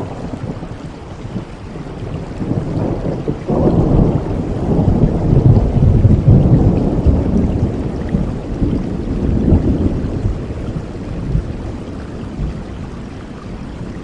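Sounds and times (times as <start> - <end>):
rain: 0.0 - 14.0
thunder rumbling: 0.0 - 14.0.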